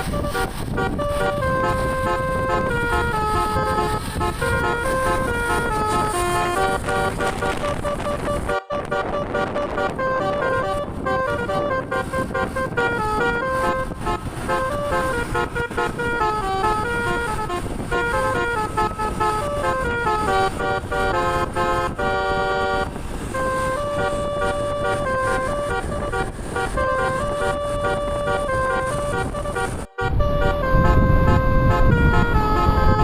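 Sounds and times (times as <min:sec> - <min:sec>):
bus multi-tone horn melody: 0:00.0 - 0:33.0
road and engine noise: 0:00.0 - 0:33.0.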